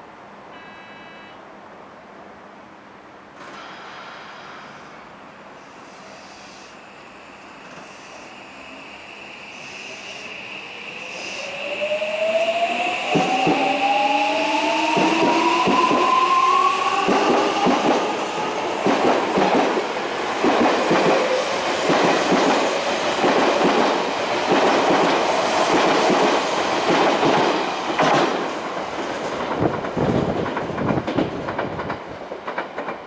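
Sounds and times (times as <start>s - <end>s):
train rumbling past: 3.2s - 33.0s.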